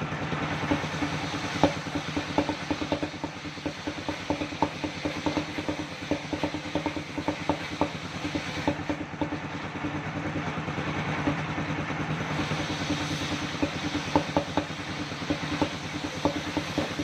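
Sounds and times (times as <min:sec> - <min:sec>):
sawmill engine drone: 0:00.0 - 0:17.0
rapid clicking rattle: 0:00.1 - 0:17.0.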